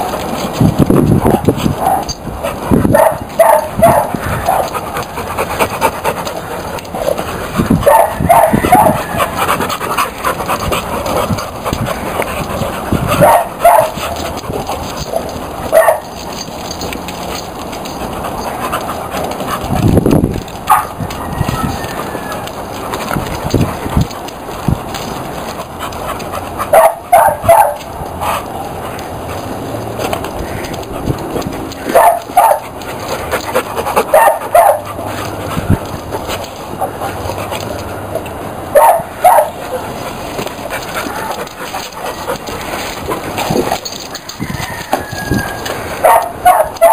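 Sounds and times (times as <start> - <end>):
dogs panting: 0.0 - 46.9.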